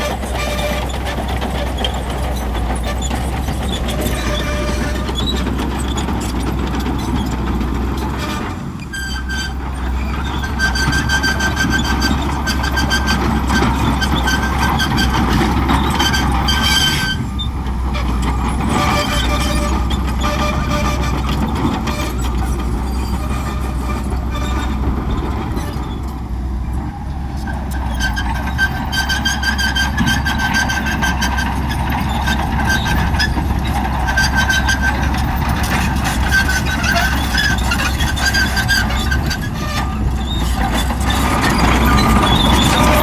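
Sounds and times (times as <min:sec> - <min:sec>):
diesel engine humming: 0:00.0 - 0:43.0
steel tracks squealing and clanking: 0:00.0 - 0:43.0.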